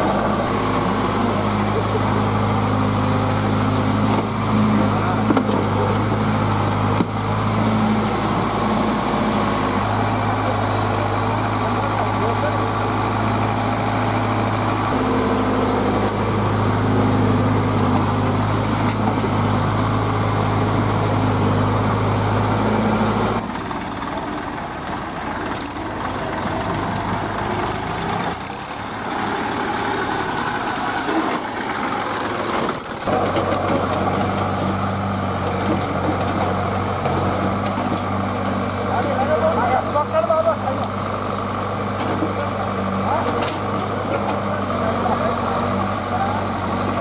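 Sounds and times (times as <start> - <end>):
excavator diesel engine idling: 0.0 - 47.0.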